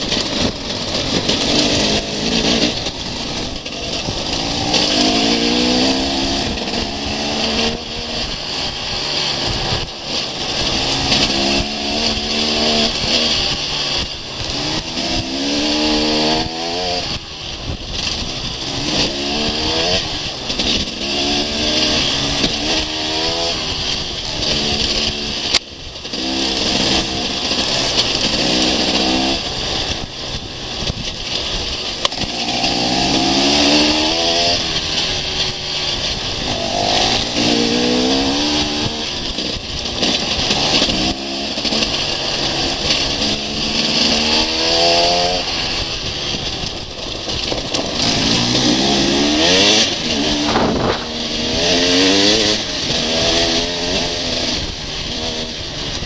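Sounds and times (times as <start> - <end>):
motorcycle engine revving: 0.0 - 56.0
wind noise on microphone: 0.0 - 56.0.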